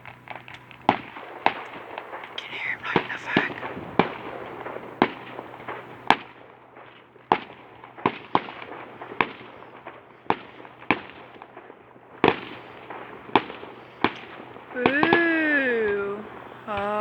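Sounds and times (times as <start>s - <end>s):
fireworks bangs: 0.0s - 17.0s
noisy background: 0.0s - 17.0s.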